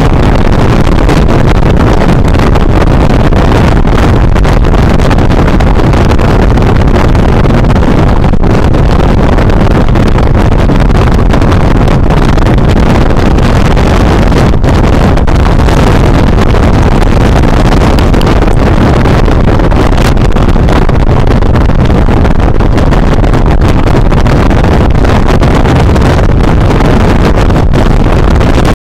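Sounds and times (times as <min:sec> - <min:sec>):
wind rush on microphone: 0:00.0 - 0:28.9.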